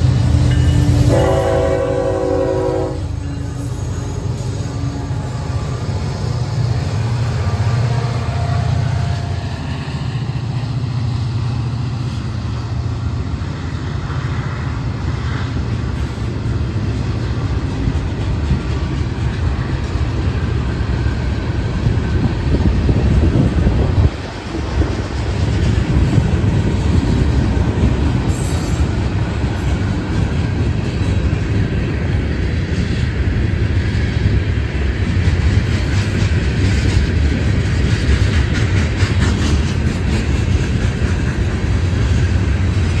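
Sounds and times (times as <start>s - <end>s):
diesel locomotive engine rumble: 0.0s - 43.0s.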